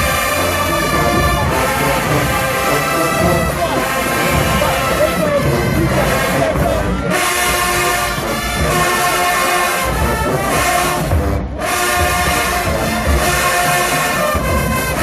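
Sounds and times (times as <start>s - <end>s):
brass chords: 0.0s - 15.0s.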